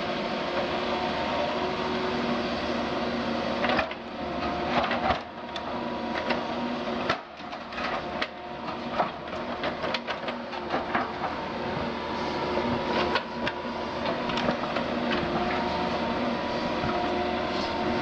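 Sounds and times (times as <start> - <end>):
excavator engine and hydraulics: 0.0 - 18.0.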